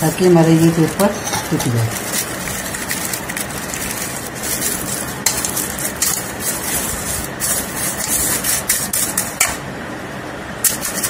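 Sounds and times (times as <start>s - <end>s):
baking paper rustling: 0.0s - 9.4s.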